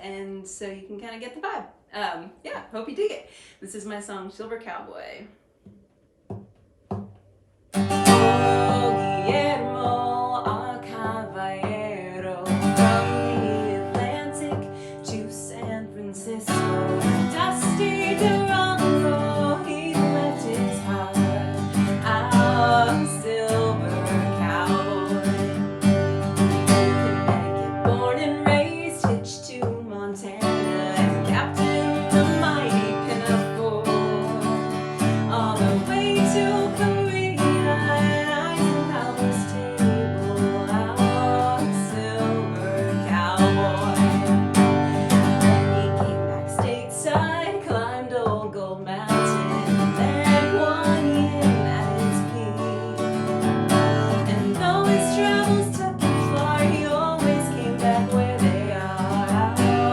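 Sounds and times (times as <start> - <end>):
strummed acoustic guitar: 7.7 - 59.9
person singing: 7.9 - 59.9.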